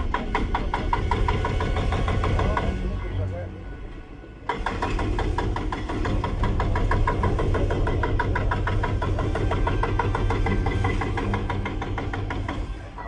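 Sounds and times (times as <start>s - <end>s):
rapid even knocking: 0.0s - 2.8s, 4.5s - 13.0s
vehicle engine humming: 0.0s - 13.0s.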